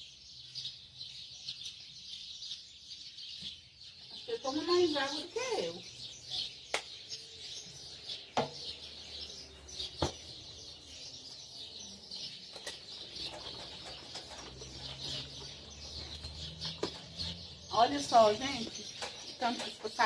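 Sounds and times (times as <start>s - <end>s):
small birds chirping and singing: 0.0s - 20.0s.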